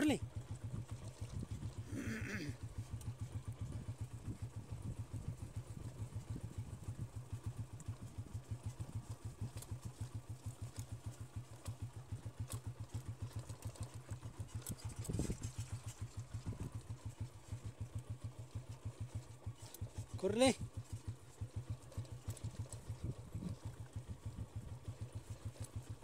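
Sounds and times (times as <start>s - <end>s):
small motorcycle engine putter: 0.3s - 26.0s.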